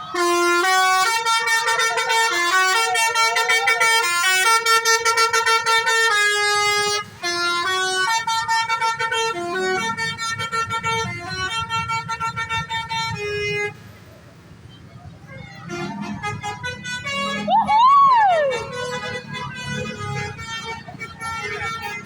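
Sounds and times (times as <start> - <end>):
multi-tone musical bus horn: 0.0 - 14.0, 15.4 - 22.0
low engine rumble: 0.0 - 22.0.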